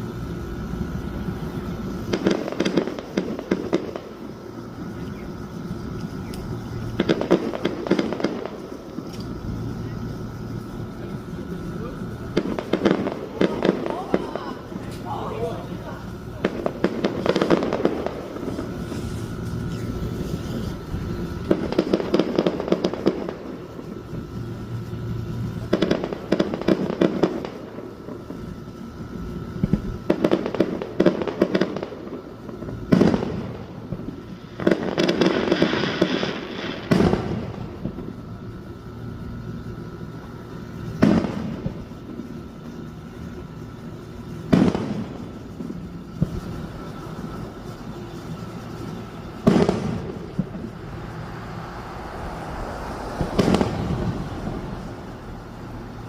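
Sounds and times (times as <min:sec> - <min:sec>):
fireworks bursting with sharp bangs: 0:00.0 - 0:56.0
fireworks crackling: 0:00.0 - 0:56.0.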